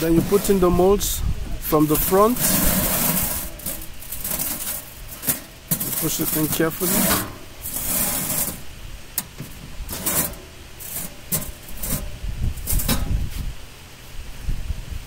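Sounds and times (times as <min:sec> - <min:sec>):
metal scraping and rubbing: 0:00.0 - 0:13.5.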